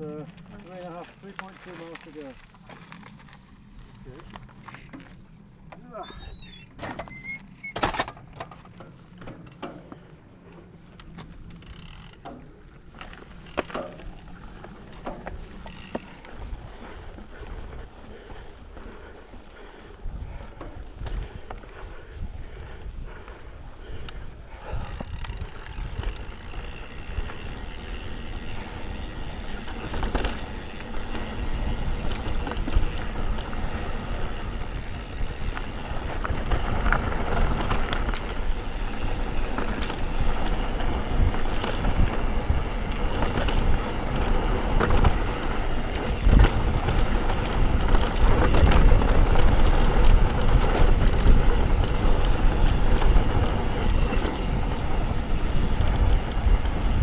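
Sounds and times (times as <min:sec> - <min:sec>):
bike tyre rumble: 0:00.0 - 0:57.0.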